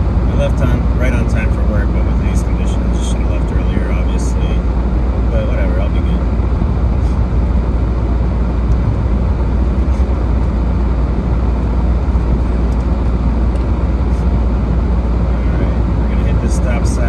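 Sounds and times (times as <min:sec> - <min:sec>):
car driving on snow: 0:00.0 - 0:17.0.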